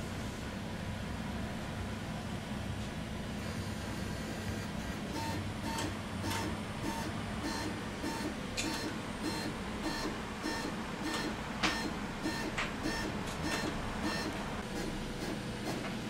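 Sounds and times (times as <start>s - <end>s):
printer carriage whine: 2.8s - 16.0s
printer low hum: 2.9s - 16.0s.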